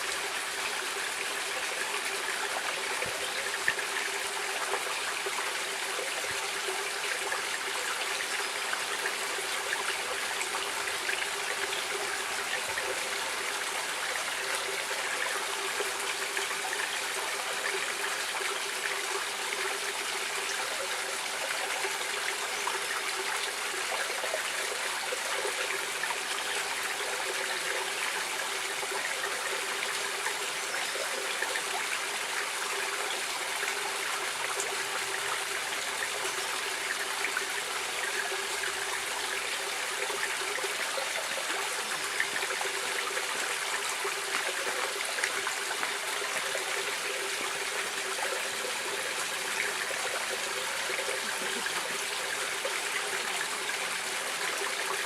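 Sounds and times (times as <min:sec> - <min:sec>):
stream water babbling over rocks: 0:00.0 - 0:55.0.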